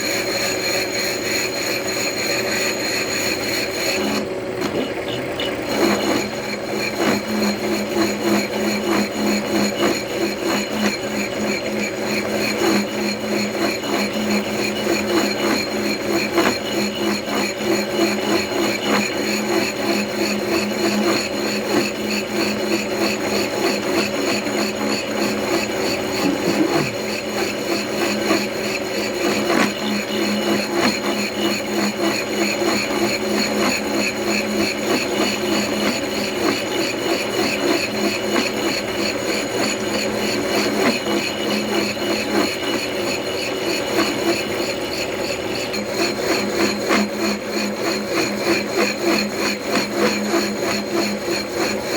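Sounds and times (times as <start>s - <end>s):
cutter chattering on metal: 0.0s - 51.9s
milling machine motor hum: 0.0s - 51.9s.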